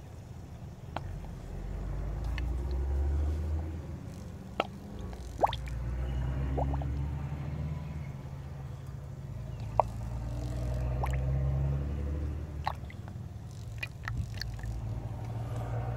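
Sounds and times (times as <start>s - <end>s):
coolant dripping: 0.0s - 7.3s, 8.4s - 15.9s.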